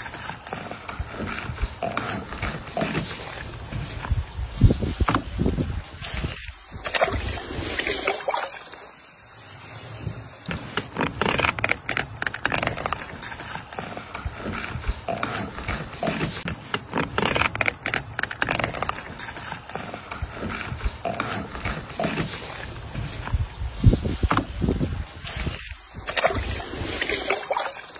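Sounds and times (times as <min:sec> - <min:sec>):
knife cutting and scraping fish: 0:00.0 - 0:08.9, 0:10.0 - 0:27.9.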